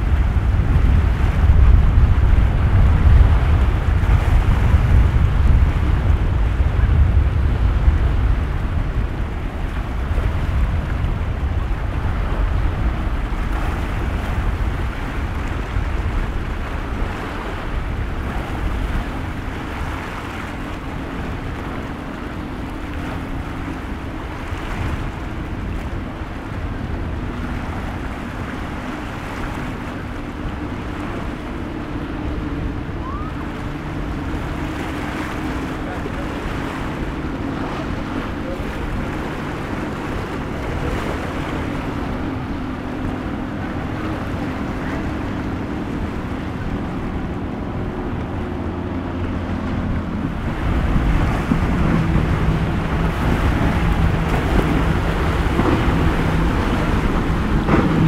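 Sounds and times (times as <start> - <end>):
boat engines droning: 0.0 - 58.0
waves and surf: 0.0 - 58.0
wind buffeting microphone: 0.0 - 58.0.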